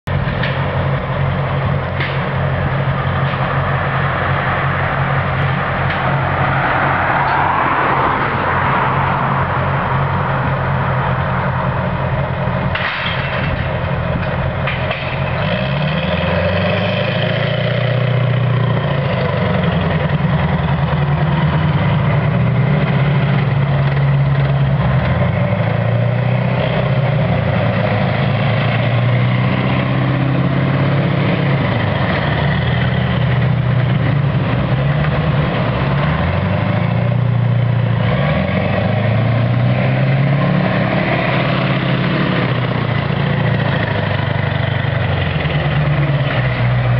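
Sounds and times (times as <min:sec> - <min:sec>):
tracked vehicles driving past: 0:00.0 - 0:46.9.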